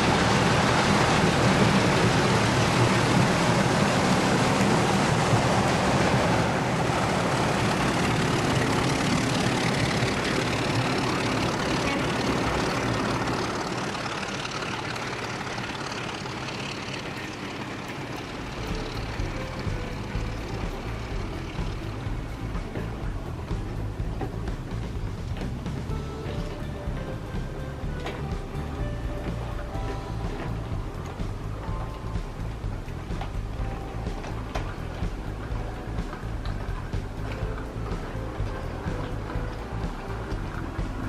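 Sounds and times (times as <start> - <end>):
diesel locomotive engine rumbling: 0.0 - 41.0.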